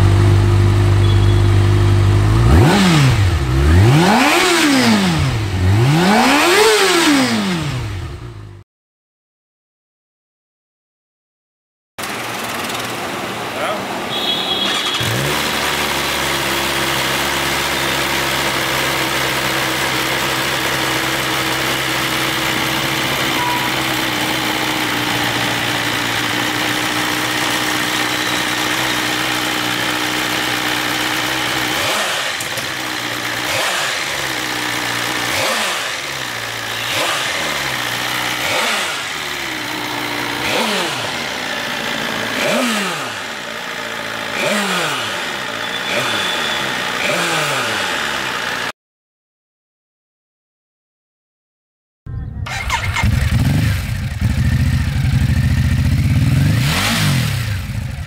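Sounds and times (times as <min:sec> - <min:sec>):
motorcycle engine idling and revving: 0:00.0 - 0:08.6, 0:12.0 - 0:48.8, 0:52.1 - 0:58.0.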